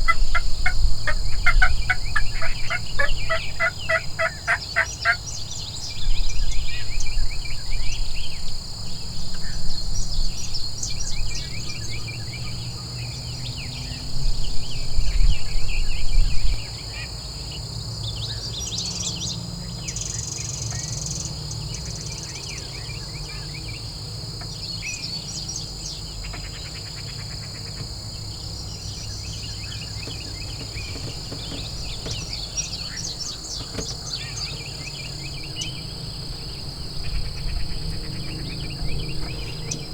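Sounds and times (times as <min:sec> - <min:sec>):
insect drone: 0:00.0 - 0:39.9
songbirds chirping: 0:00.0 - 0:39.9.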